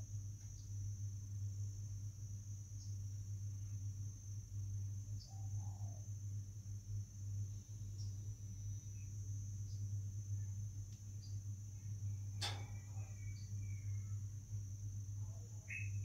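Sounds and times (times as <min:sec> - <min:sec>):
cricket trilling: 0:00.0 - 0:16.0
steady low hum: 0:00.0 - 0:16.0.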